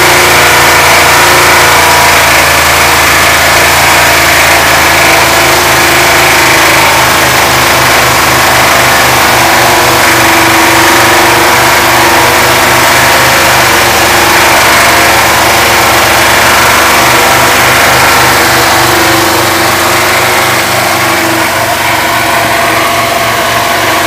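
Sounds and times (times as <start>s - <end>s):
engine running loudly: 0.0s - 24.0s
regular pulsing beat: 0.0s - 24.0s.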